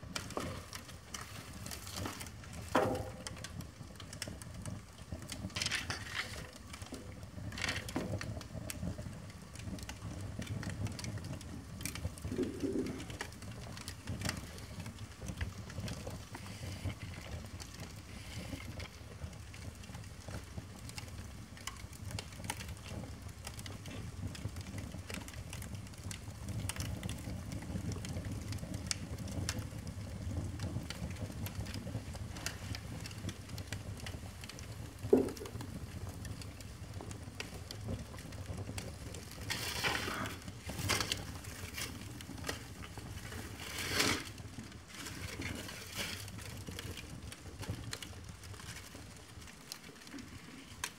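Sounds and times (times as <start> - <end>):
burning paper crackling: 0.0 - 50.9
flames fluttering rumble: 0.0 - 50.9.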